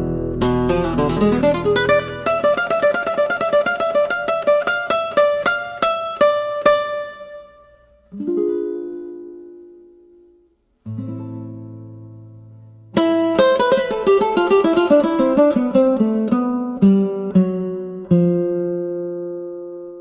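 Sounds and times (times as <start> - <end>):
plucked string instrument: 0.0 - 20.0.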